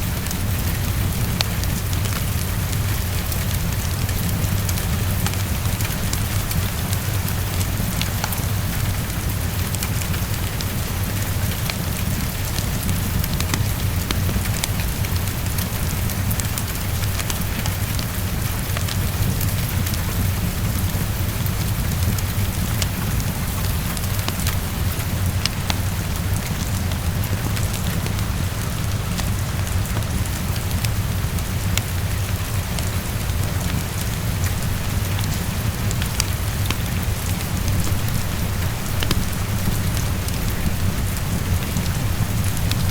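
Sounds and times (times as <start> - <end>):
heavy rain on a window: 0.0 - 42.9
wood fire crackling: 0.0 - 42.9.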